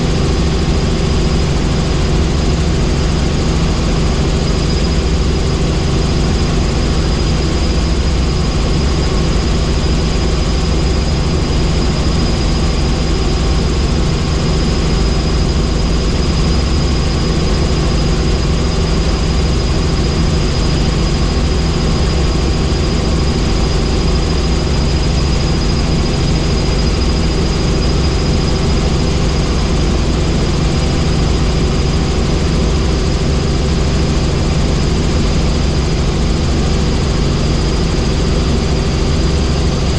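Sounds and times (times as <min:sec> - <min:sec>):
helicopter rotor and engine: 0:00.0 - 0:39.9
high-pitched whine: 0:00.0 - 0:39.9.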